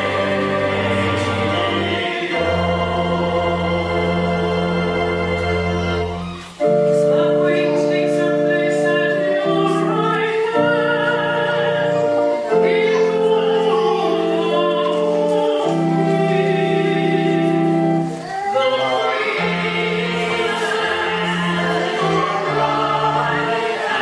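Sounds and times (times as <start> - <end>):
choir singing long held notes: 0.0 - 24.0.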